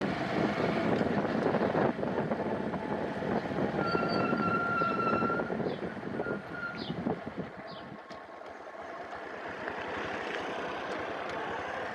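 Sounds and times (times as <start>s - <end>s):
road vehicle rumble: 0.0s - 11.9s.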